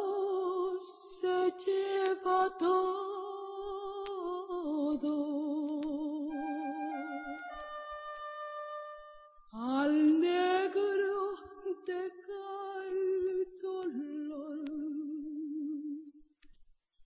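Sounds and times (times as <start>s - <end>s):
woman singing with vibrato: 0.0s - 7.7s, 9.5s - 16.1s.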